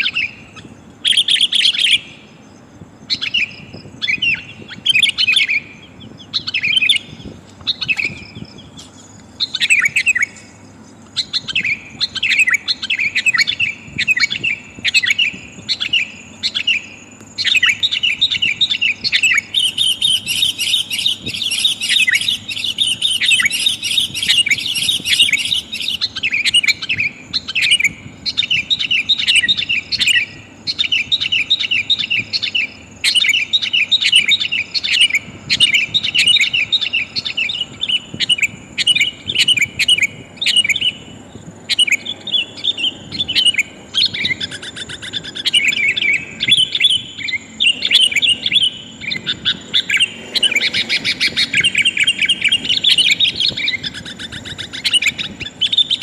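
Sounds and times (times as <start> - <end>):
bulbul chirping calls: 3.0 - 56.0.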